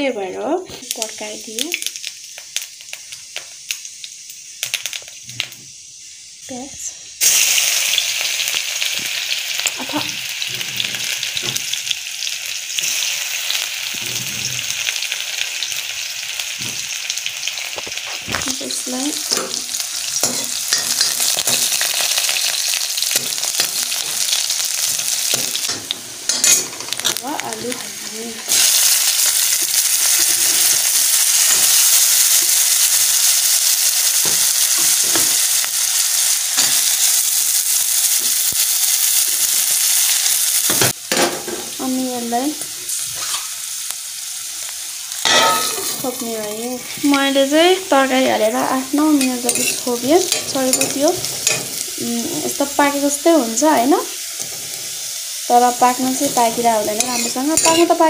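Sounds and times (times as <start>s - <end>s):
onion sizzling in hot oil: 0.0s - 58.0s.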